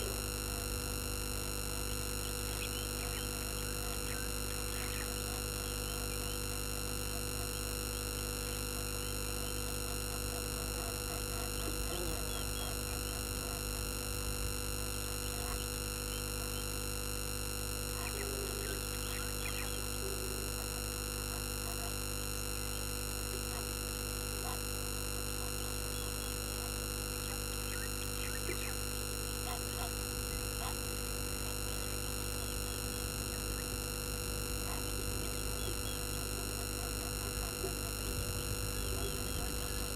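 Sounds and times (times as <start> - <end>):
electrical hum and whine: 0.0 - 39.9.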